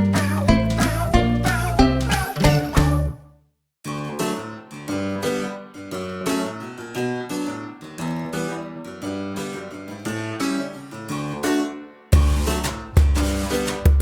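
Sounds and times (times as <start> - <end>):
plucked string music: 0.0 - 3.2, 3.9 - 14.0.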